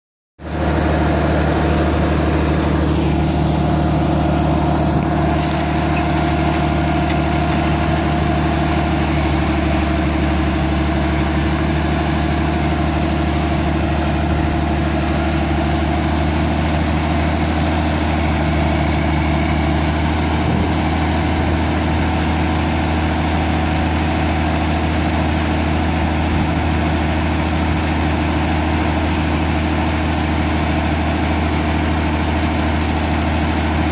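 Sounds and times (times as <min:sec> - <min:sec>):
tractor diesel engine idling: 0:00.4 - 0:33.9.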